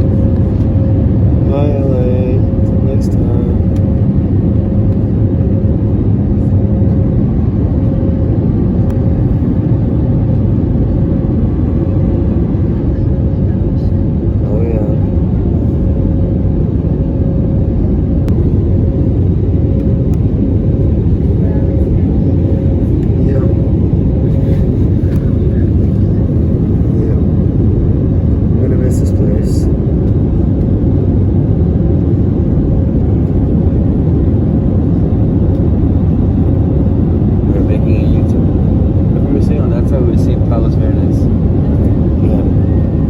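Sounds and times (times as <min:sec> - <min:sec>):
aircraft cabin engine rumble: 0:00.0 - 0:43.0.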